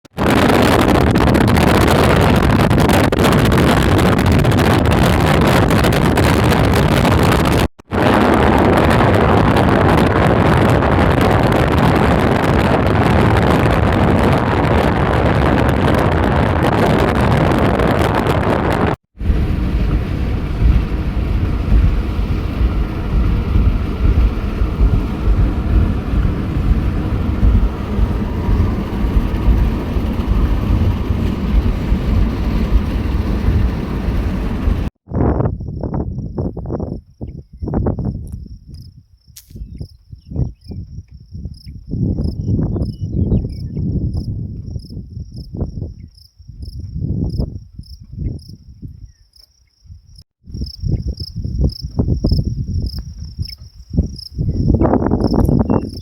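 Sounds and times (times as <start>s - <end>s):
wind buffeting microphone: 0.0s - 49.2s, 49.8s - 56.0s.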